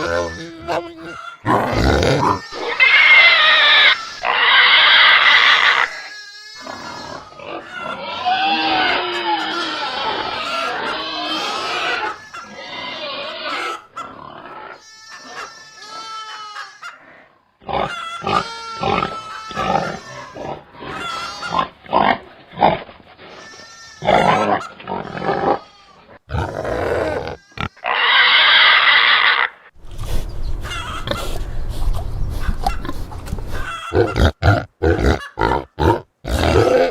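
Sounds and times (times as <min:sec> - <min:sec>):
pigs grunting: 0:00.0 - 0:06.0, 0:06.6 - 0:36.9
pigs squealing: 0:00.0 - 0:36.9.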